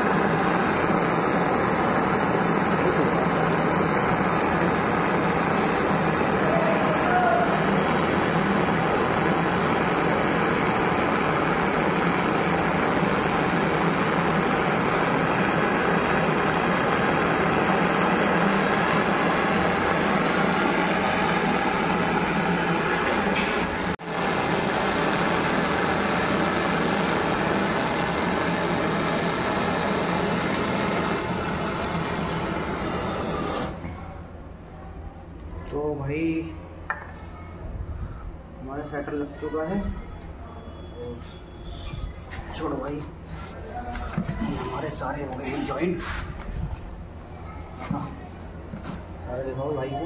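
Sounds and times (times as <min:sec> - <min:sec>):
torch flame hissing: 0:00.0 - 0:33.9, 0:41.5 - 0:49.2.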